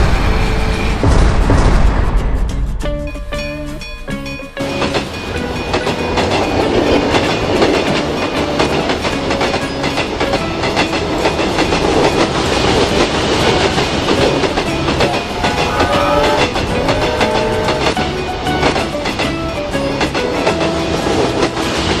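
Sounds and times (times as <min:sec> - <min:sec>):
train wheels clattering: 0:04.0 - 0:22.0.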